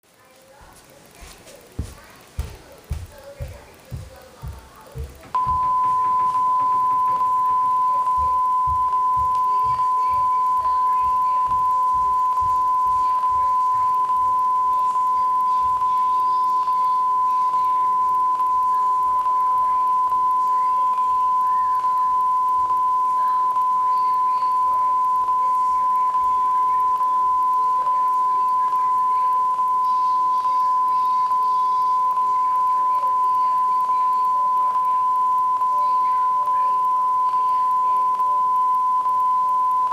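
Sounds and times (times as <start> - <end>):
steady test tone: 1.1 - 39.9.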